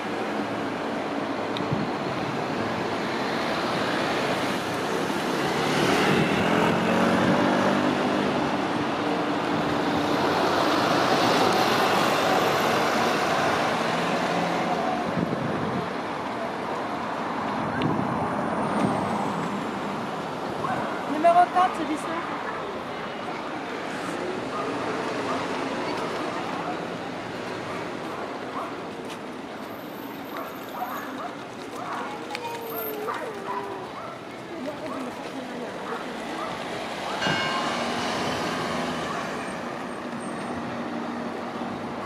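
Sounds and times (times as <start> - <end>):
cars passing: 0.0 - 42.0
road noise hum: 0.0 - 42.0.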